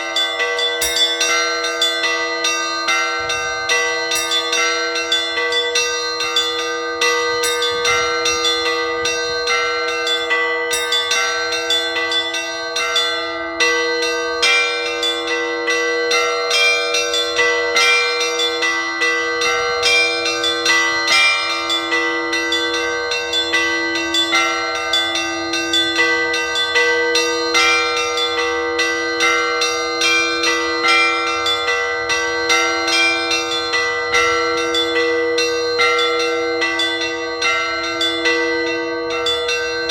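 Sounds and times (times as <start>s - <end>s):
low church bell strikes: 0.0s - 39.9s
small church bells ringing: 0.0s - 39.9s.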